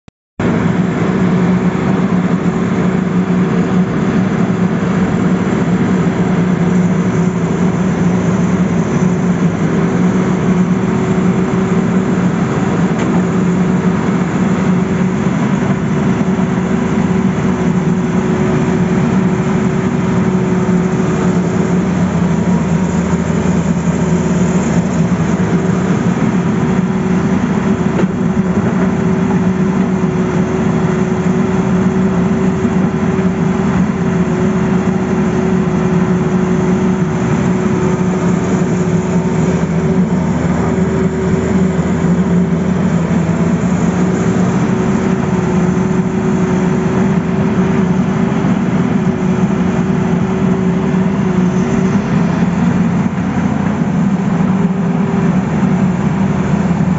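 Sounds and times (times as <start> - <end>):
excavator diesel engine drone: 0.4 - 56.9
steady hum: 0.4 - 56.9.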